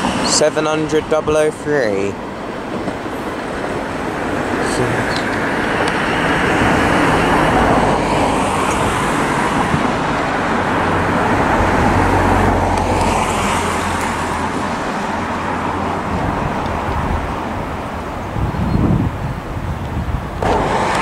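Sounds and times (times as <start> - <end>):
electric train approaching: 0.0 - 21.0.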